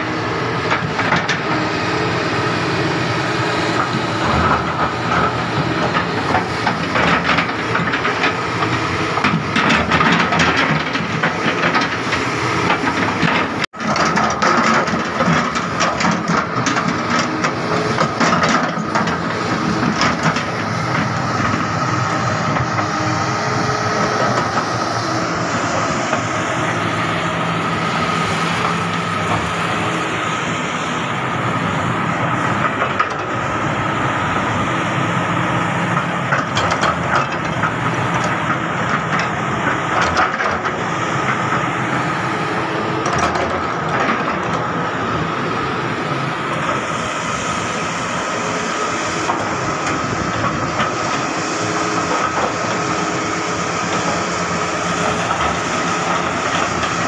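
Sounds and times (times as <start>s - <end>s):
excavator engine with whine: 0.0s - 57.0s.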